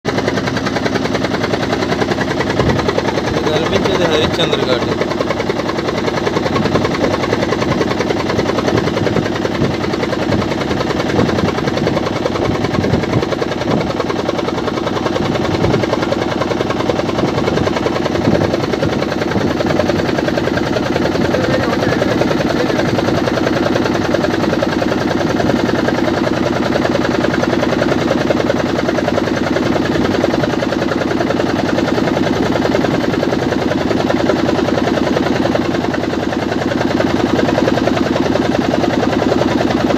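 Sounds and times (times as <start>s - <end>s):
motorboat engine chugging: 0.1s - 39.9s.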